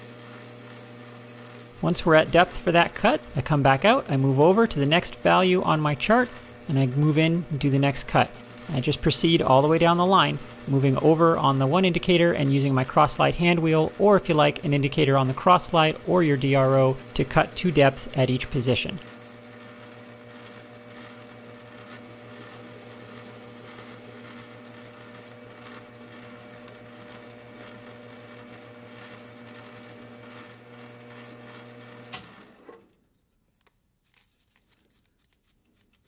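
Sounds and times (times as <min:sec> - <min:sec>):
metal lathe motor hum: 0:00.0 - 0:32.8.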